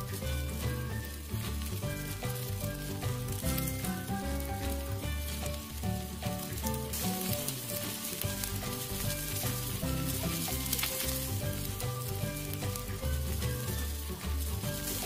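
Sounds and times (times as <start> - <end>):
background music: 0.0 - 15.0
chicken sizzling on charcoal grill: 0.0 - 15.0.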